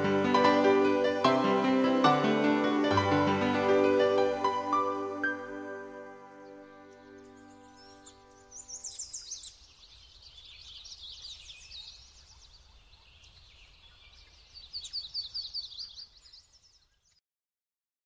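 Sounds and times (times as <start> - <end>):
songbird chirping: 0.0 - 17.2.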